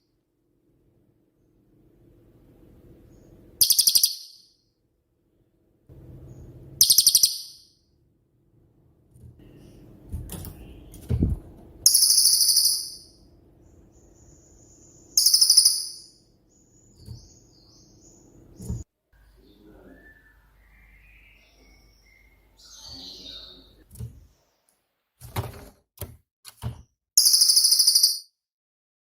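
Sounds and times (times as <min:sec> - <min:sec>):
faint low hum: 0:00.1 - 0:03.9, 0:04.8 - 0:24.6.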